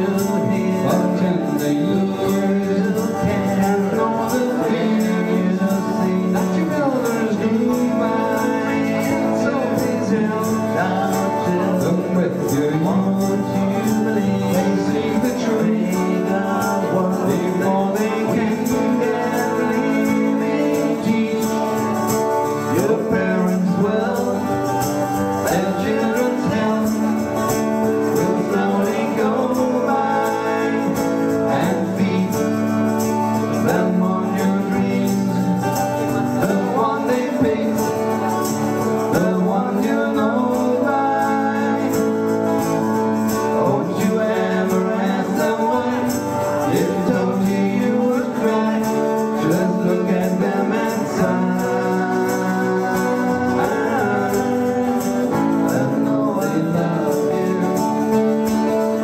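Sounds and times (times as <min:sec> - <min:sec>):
man singing: 0:00.0 - 0:59.0
strummed acoustic guitar: 0:00.0 - 0:59.0
tambourine shaken in rhythm: 0:00.0 - 0:59.0.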